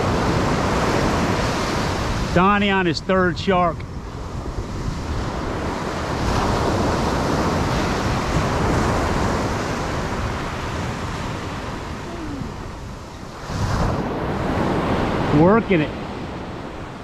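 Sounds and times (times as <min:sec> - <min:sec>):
surf breaking on a beach: 0:00.0 - 0:17.0
wind rumbling on microphone: 0:00.0 - 0:17.0.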